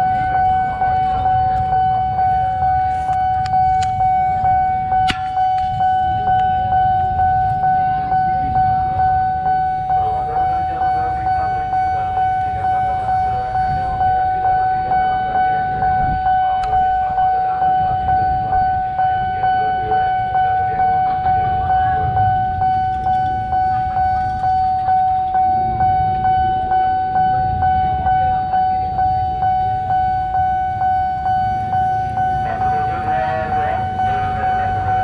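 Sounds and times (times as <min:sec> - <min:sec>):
level crossing bell ringing: 0:00.0 - 0:35.0
motorbike traffic rumble: 0:00.0 - 0:35.0.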